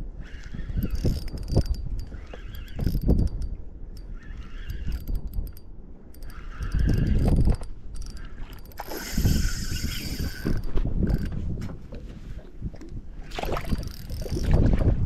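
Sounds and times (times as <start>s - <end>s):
fishing reel gears whirring: 0.0s - 11.4s, 13.2s - 14.9s
heavy wind buffeting: 0.0s - 15.0s.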